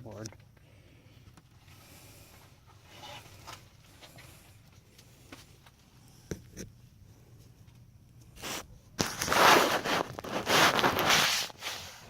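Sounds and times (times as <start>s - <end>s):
faint scraping and rustling: 0.0s - 12.0s.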